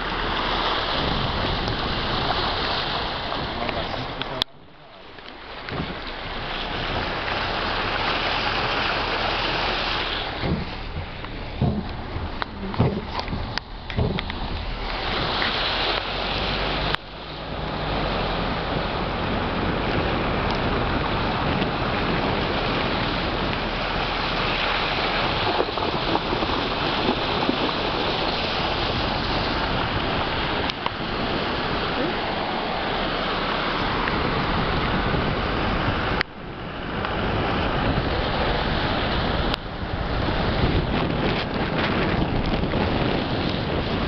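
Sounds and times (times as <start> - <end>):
wind buffeting microphone: 0.0 - 4.5, 5.2 - 44.0
floodwater rushing: 0.0 - 44.0.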